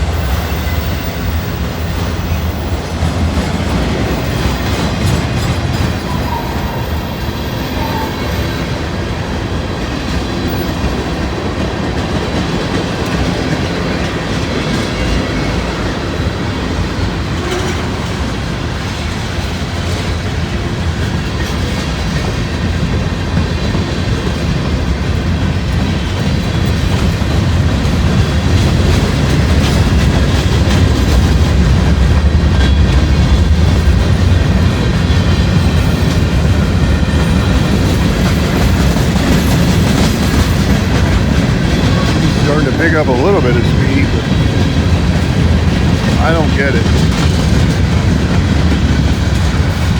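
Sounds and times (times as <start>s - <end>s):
train rumble: 0.0s - 49.9s
train wheels clicking over rail joints: 0.0s - 49.9s.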